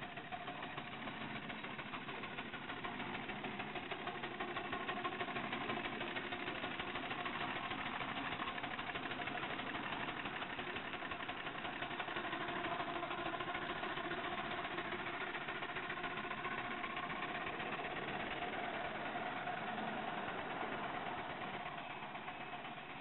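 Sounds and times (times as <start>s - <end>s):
miniature steam engine clatter: 0.0s - 23.0s.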